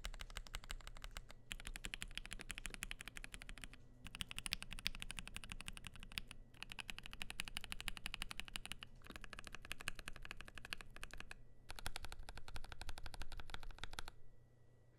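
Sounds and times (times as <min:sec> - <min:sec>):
fast mechanical keyboard typing: 0:00.0 - 0:14.2.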